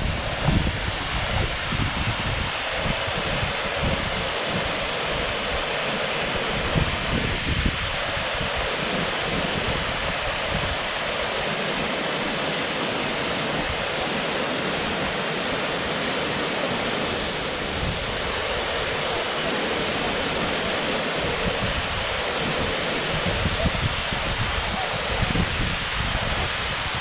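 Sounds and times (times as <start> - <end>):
river flowing: 0.0 - 1.7, 2.4 - 7.2, 7.8 - 25.2
water falling from a dam: 0.0 - 27.0.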